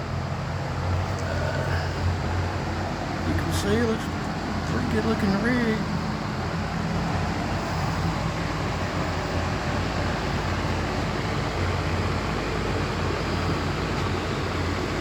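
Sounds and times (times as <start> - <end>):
low drone: 0.0 - 15.0
mechanical hum and rushing noise: 0.0 - 15.0.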